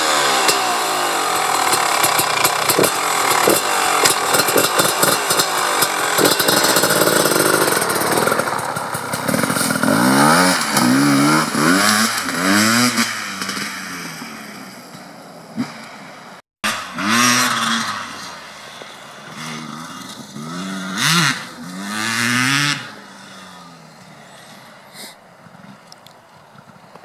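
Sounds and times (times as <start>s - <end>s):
dirt bike engine revving: 0.0s - 25.7s.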